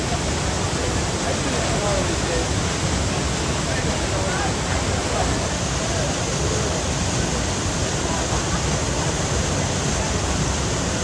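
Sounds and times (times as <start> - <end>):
waterfall: 0.0 - 11.0.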